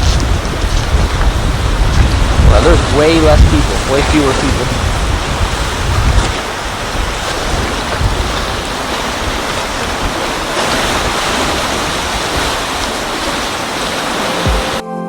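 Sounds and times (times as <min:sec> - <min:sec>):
sea surf on a beach: 0:00.0 - 0:14.8
wind buffeting microphone: 0:00.0 - 0:14.8.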